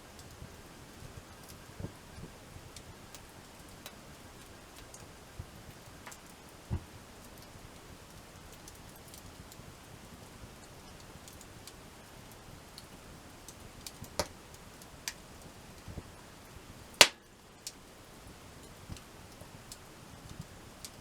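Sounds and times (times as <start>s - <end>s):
campfire crackling: 0.0s - 21.0s
fire popping: 0.0s - 21.0s.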